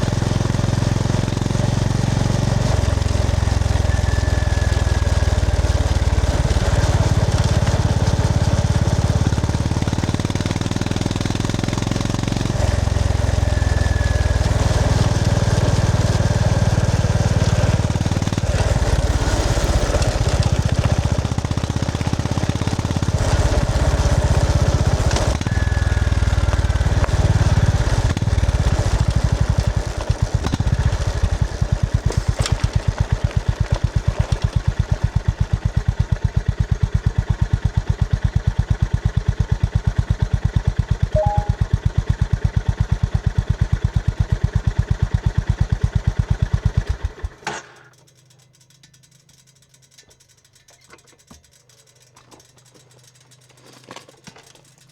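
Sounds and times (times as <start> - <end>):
motorcycle engine revving and idling: 0.0 - 47.4.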